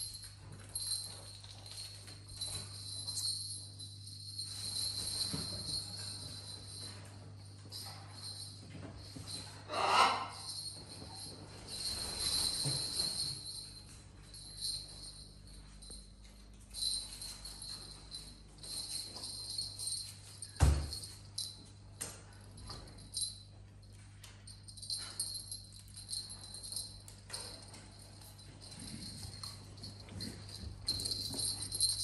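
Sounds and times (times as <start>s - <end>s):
jingle bell toy shaken: 0.0s - 32.0s.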